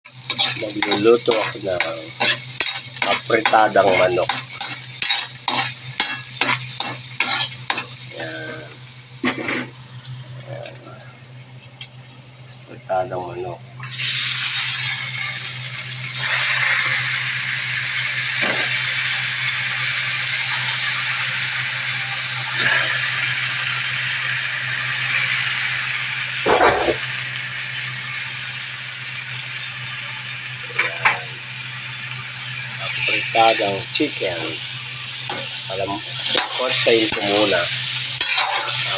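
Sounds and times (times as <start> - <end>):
chicken sizzling in hot oil: 0.1 - 38.9.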